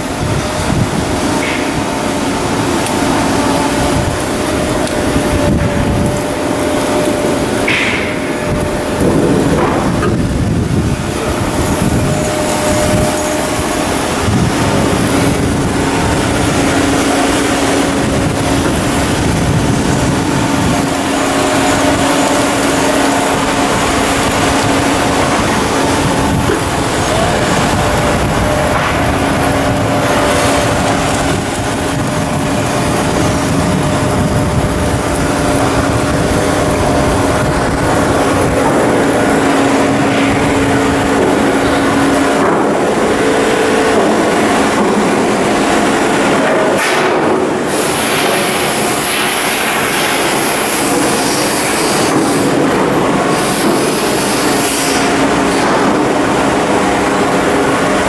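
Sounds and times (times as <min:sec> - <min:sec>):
loud machinery hum: 0:00.0 - 0:58.0.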